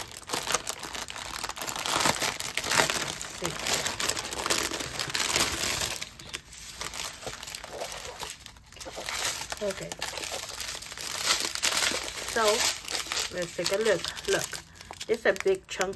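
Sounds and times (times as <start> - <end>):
plastic packaging crinkling: 0.0 - 15.9.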